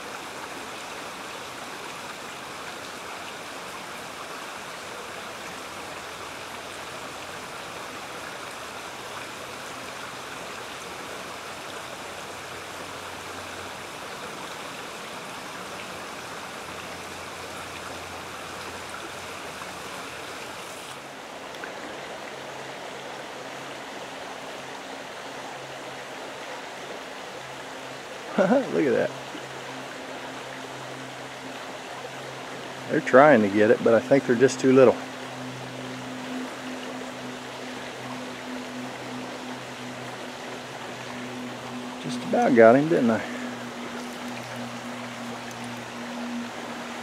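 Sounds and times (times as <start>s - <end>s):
creek water rushing: 0.0s - 47.0s.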